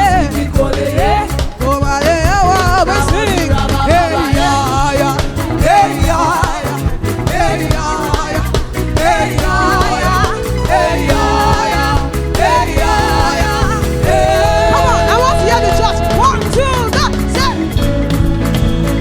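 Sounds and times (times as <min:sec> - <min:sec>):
live praise band music: 0:00.0 - 0:19.0.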